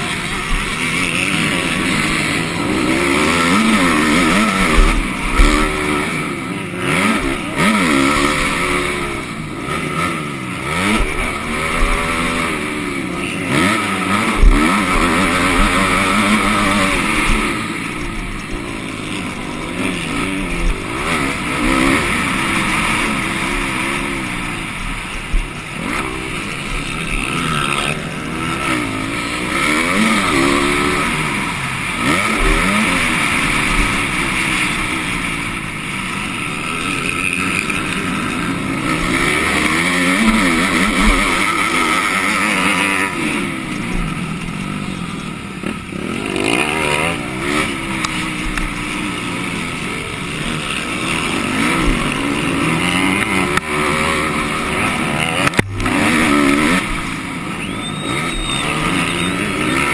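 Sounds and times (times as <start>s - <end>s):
dirt bike engine revving: 0.0s - 59.9s
second dirt bike: 0.0s - 59.9s.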